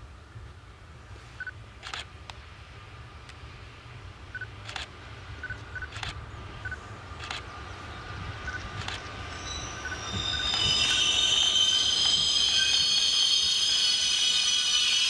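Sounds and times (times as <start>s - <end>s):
electric locomotive rumble: 0.0s - 15.0s.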